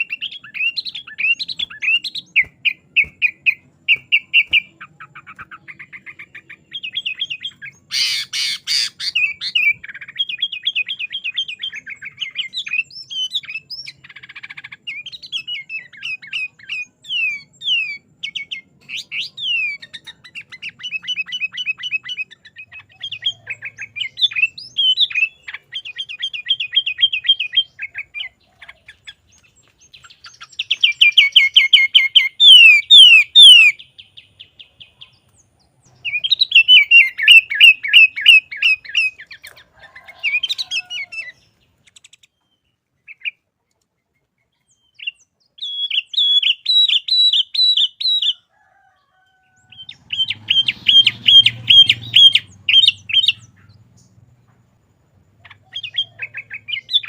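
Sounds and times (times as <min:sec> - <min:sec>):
bulbul singing high trills: 0:00.0 - 0:43.4, 0:49.6 - 0:57.0.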